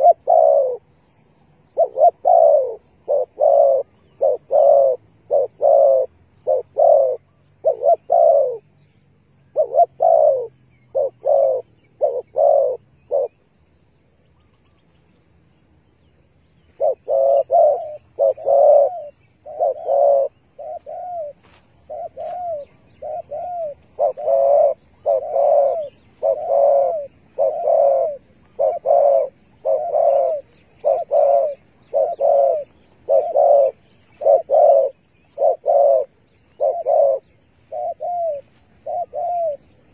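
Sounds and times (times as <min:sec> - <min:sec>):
doves cooing: 0:00.0 - 0:13.6, 0:16.6 - 0:39.9.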